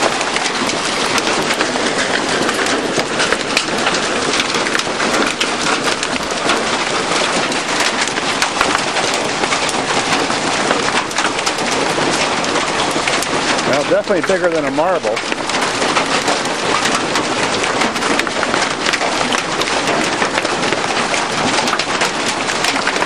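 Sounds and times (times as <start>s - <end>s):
hailstones pelting down: 0.0s - 23.0s.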